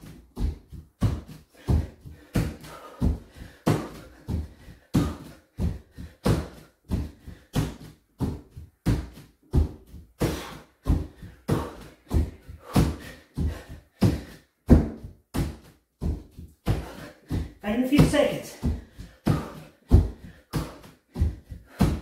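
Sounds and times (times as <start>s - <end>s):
bare feet thudding on wooden floor: 0.0s - 22.0s.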